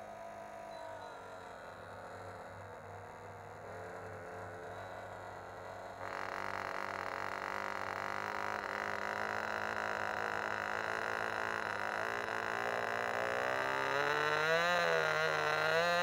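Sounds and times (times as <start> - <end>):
model engine buzzing: 0.0 - 16.0.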